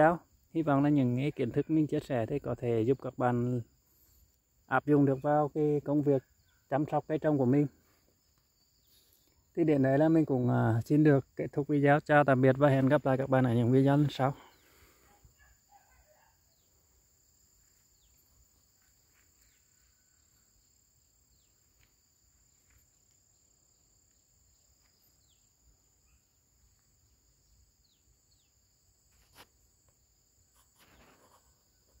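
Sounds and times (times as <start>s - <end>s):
high-pitched insect chorus: 0.0s - 32.0s.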